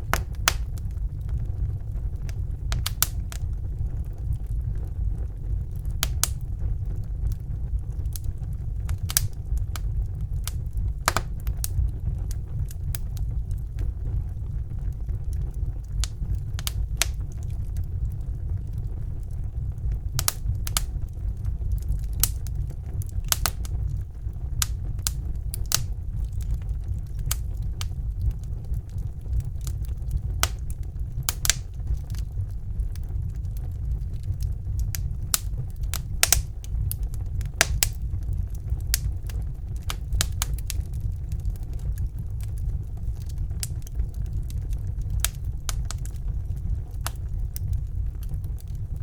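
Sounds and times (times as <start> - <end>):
burning logs crackling and popping: 0.0 - 49.0
low rumble of flames: 0.0 - 49.0.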